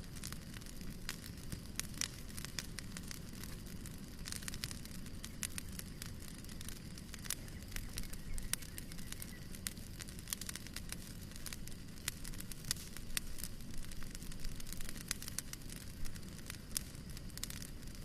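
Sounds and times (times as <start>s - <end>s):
fire snapping and popping: 0.0s - 18.0s
low rumble of burning: 0.0s - 18.0s.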